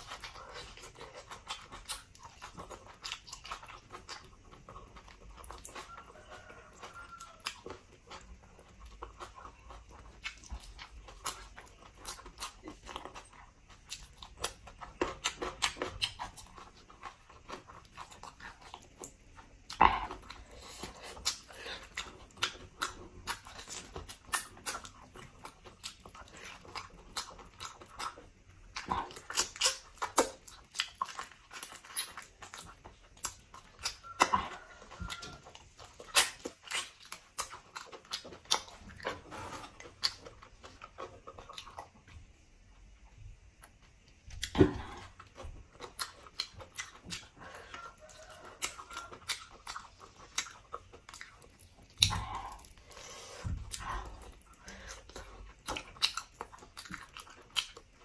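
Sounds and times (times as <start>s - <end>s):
wet chewing and lip smacking: 0.0s - 58.0s.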